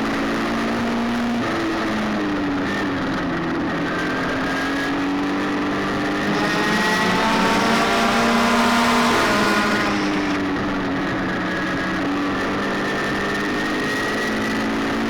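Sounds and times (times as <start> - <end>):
race car engines: 2.6 - 15.0.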